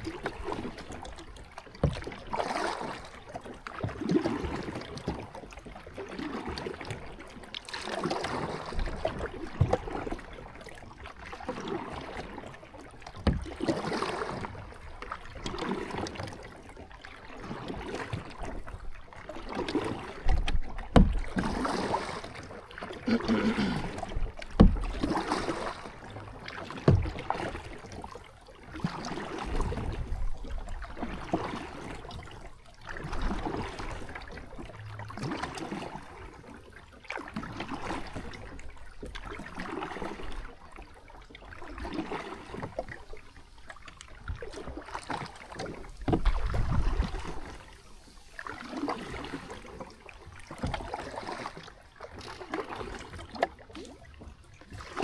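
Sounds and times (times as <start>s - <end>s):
paddle strokes splashing water: 0.0s - 55.0s.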